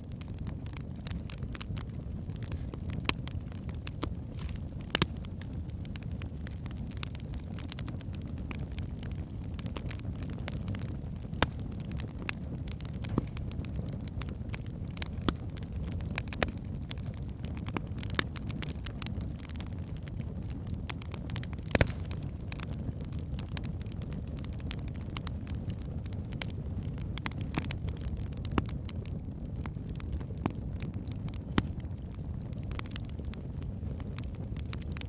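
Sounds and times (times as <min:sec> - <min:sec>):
fire crackles and pops: 0:00.0 - 0:35.0
low rumble of flames: 0:00.0 - 0:35.0.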